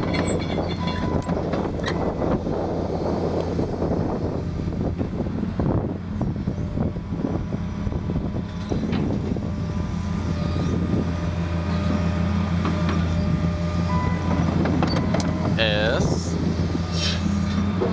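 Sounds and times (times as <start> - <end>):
excavator diesel engine running: 0.0 - 17.9.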